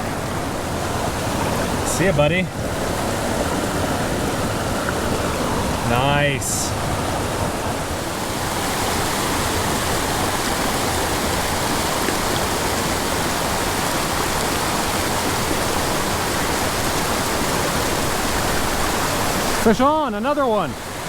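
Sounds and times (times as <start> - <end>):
creek water rushing over waterfalls: 0.0 - 21.0.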